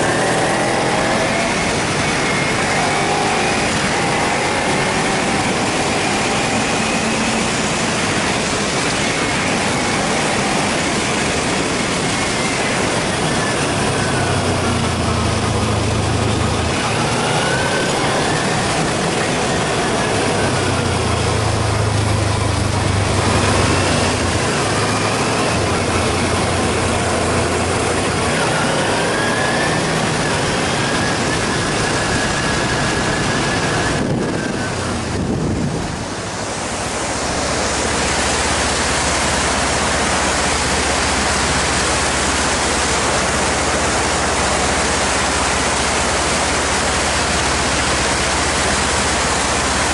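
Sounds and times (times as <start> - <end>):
motorcycle engine revving: 0.0 - 49.9
river rapids rushing: 0.0 - 49.9
wind rush: 0.0 - 49.9.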